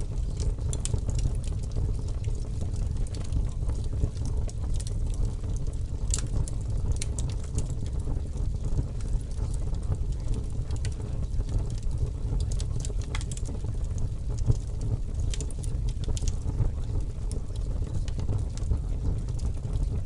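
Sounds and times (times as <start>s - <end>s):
light ticks and crackles: 0.0s - 20.0s.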